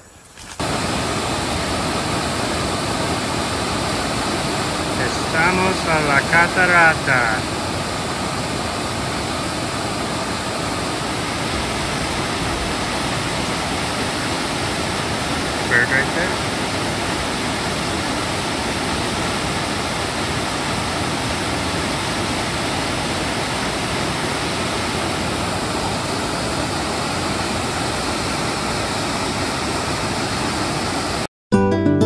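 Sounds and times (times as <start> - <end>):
waterfall rushing over rocks: 0.6 - 31.3.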